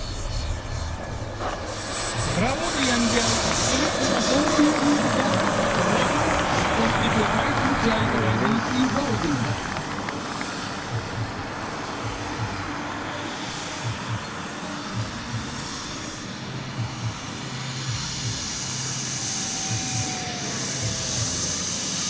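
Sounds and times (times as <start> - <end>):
high turbine whine: 0.0 - 22.0
model jet turbines rushing: 0.0 - 22.0.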